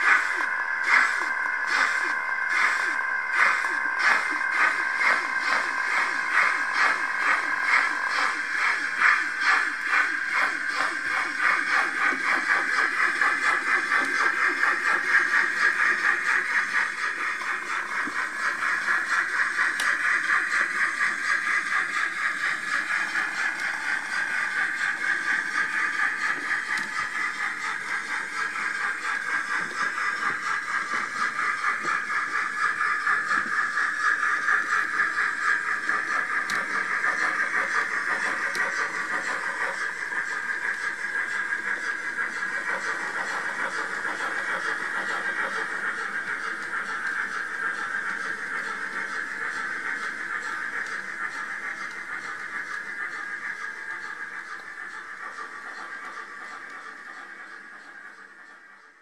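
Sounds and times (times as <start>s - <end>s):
steam chuffing from small speaker: 0.0s - 59.0s.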